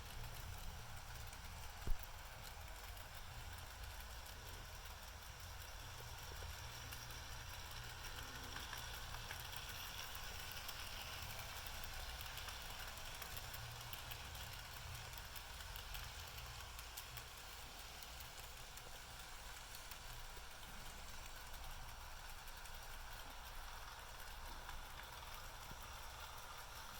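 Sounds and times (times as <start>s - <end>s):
model train motor whir: 0.0s - 26.9s
wheels clicking over rails: 0.0s - 26.9s.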